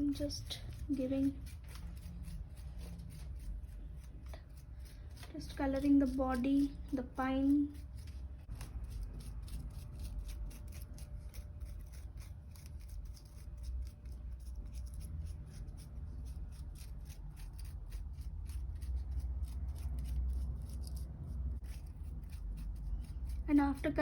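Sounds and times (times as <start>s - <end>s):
paintbrush scratching pine cone: 0.0s - 24.0s.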